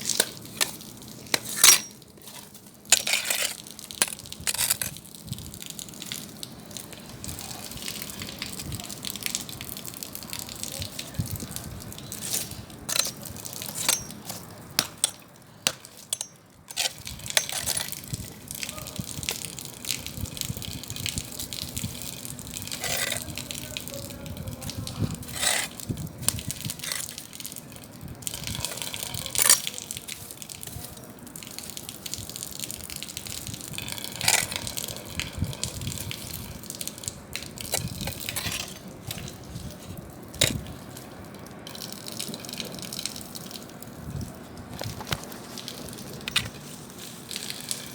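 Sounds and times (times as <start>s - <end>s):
burning wood crackling: 0.0s - 47.9s.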